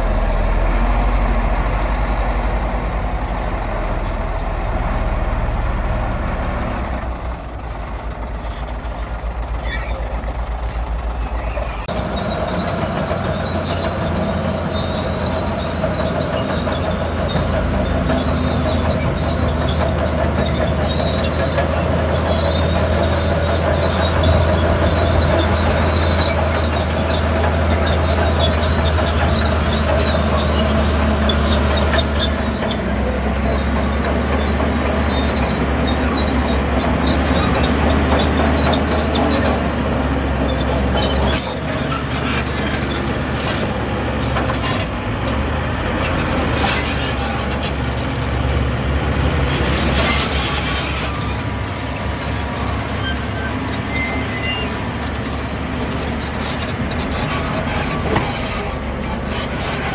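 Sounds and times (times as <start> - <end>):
bulldozer diesel engine running: 0.0 - 59.9
crawler tracks clanking and squealing: 0.0 - 59.9.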